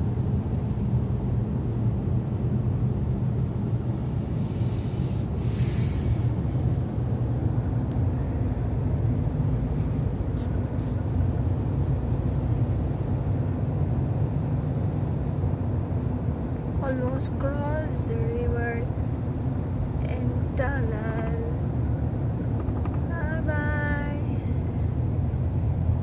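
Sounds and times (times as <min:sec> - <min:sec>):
car rumbling through tunnel: 0:00.0 - 0:26.0.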